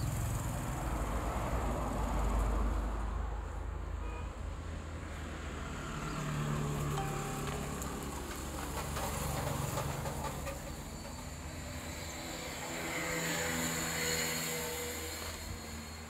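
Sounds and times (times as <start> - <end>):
vehicle engine hum with hiss: 0.0 - 16.0.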